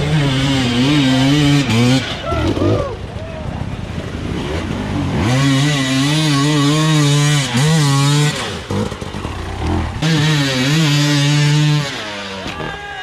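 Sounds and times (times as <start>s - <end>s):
dirt bike engine revving high: 0.0s - 3.1s, 4.0s - 12.7s.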